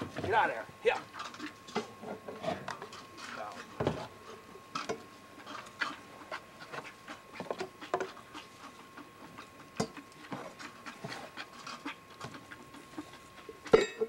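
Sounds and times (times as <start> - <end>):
calves moving and feeding: 0.0 - 14.0.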